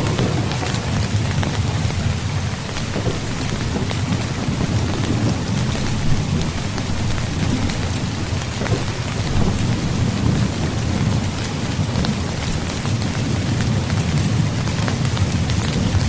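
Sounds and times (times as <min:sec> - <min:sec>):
continuous low rumble: 0:00.0 - 0:16.0
rain falling on a tent: 0:00.0 - 0:16.0
sharp ticks of raindrops: 0:00.0 - 0:16.0.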